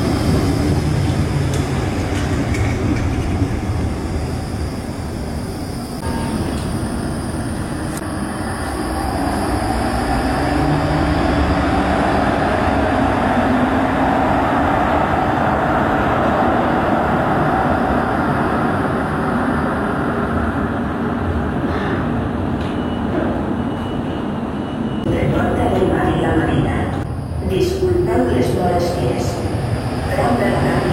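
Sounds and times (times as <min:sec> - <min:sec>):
tram rumbling on rails: 0:00.0 - 0:30.9.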